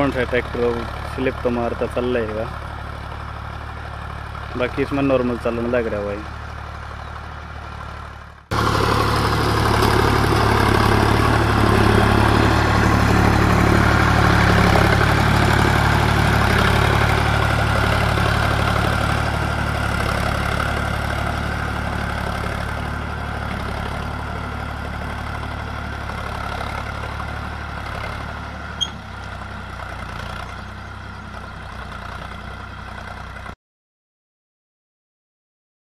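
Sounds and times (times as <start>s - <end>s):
tractor diesel engine running: 0.0s - 33.6s.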